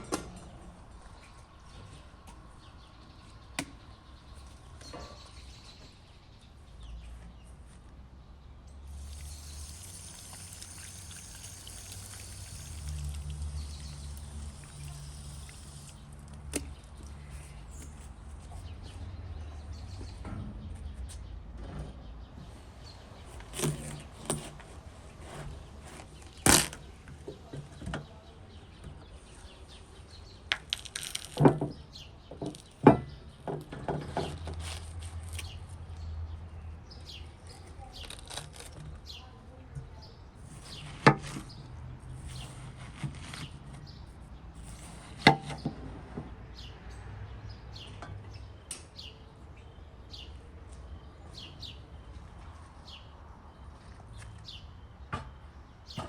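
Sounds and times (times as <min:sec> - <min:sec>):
faint birds chirping: 0:00.0 - 0:56.0.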